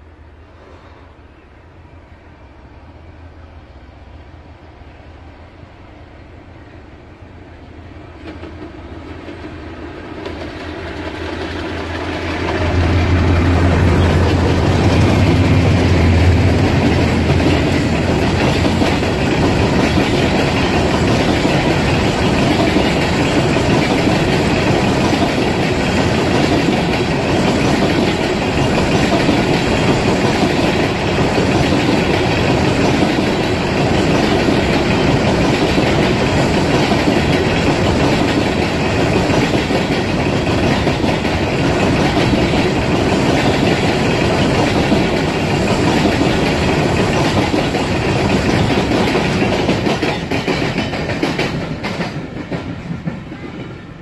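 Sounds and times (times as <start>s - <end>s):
train wagons rolling on rails: 2.6s - 54.0s.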